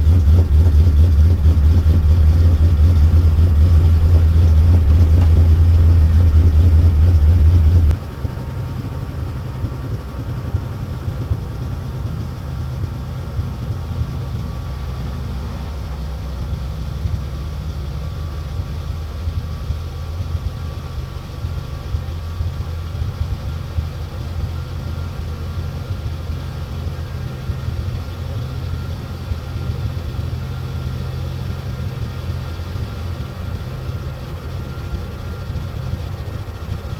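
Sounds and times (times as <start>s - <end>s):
pickup engine idling: 0.0s - 36.9s.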